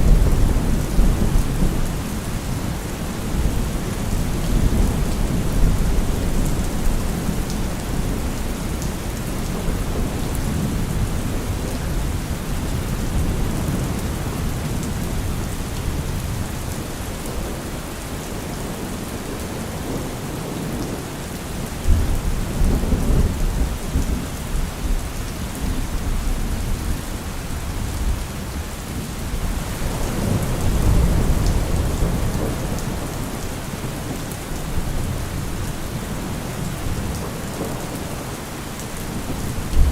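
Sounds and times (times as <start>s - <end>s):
low rumble of thunder: 0.0s - 39.9s
steady rain: 0.0s - 39.9s.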